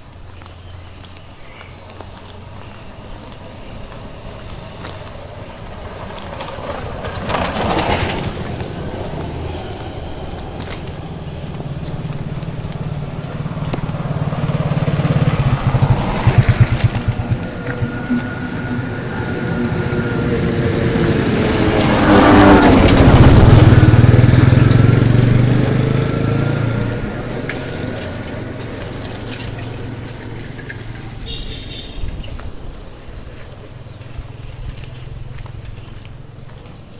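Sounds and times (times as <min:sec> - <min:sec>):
vehicle engine passing by: 0:01.7 - 0:36.9.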